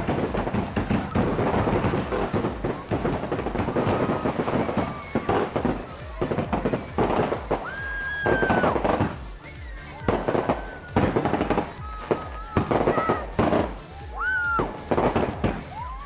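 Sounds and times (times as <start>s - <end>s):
firework crackle: 0.0s - 16.0s
firework shells bursting: 0.0s - 16.0s.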